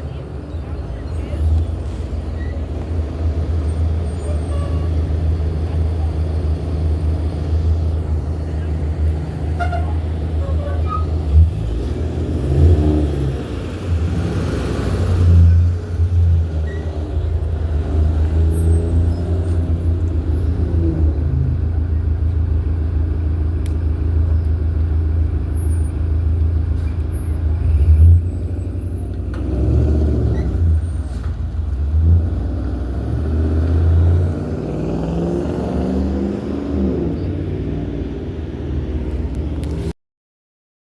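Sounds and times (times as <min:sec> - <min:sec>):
bus diesel engines rumbling: 0:00.0 - 0:39.9.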